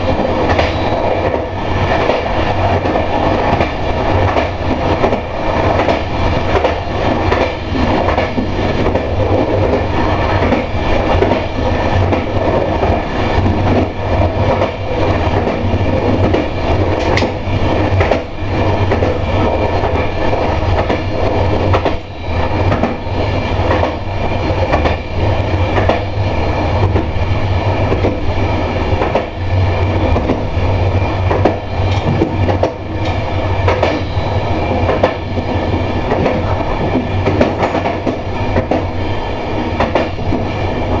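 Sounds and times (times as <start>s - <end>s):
train rumbling: 0.0s - 41.0s
train wheels clicking over rails: 0.0s - 41.0s.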